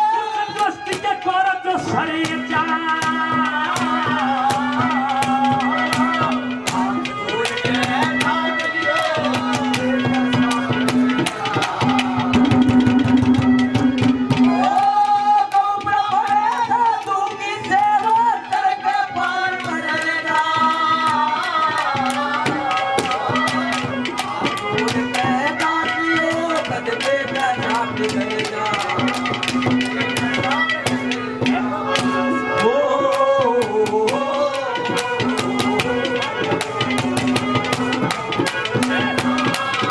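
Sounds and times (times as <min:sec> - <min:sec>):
hand drums fast beat: 0:00.0 - 0:39.9.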